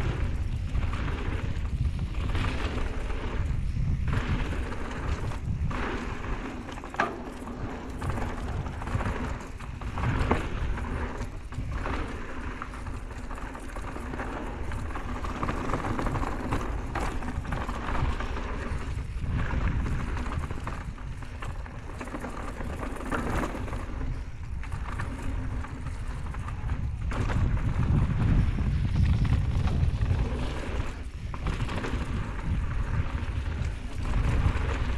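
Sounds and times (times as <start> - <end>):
bike rattling over bumps: 0.0 - 34.9
bike tyres rolling on dirt: 0.0 - 34.9
wind on microphone: 0.0 - 34.9.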